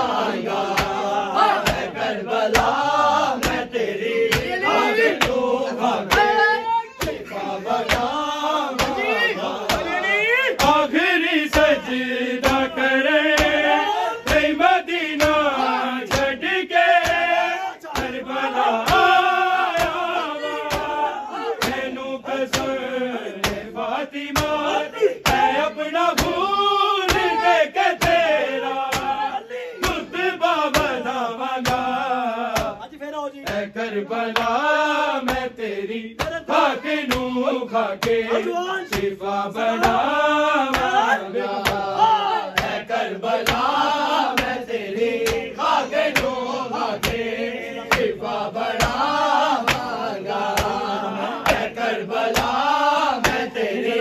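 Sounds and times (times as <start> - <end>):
men chanting in chorus: 0.0 - 54.0
rhythmic chest-beating slaps: 0.0 - 54.0.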